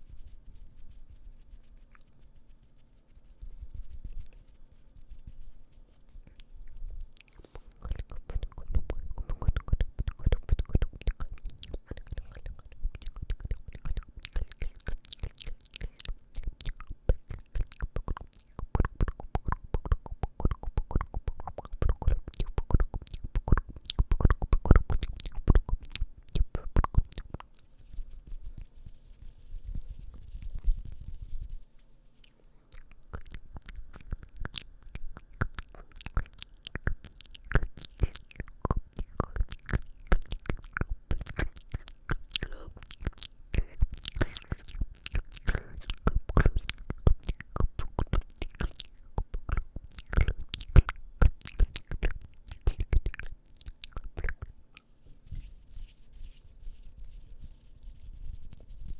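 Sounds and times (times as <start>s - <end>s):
wet mouth clicks and smacks: 6.0s - 31.6s, 32.2s - 55.5s.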